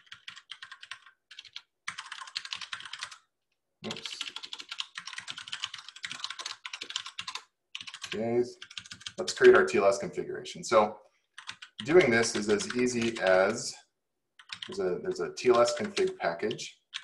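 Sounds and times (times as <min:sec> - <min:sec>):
fast typing on keyboard: 0:00.0 - 0:03.3, 0:03.9 - 0:10.0, 0:11.3 - 0:13.6, 0:14.4 - 0:17.0.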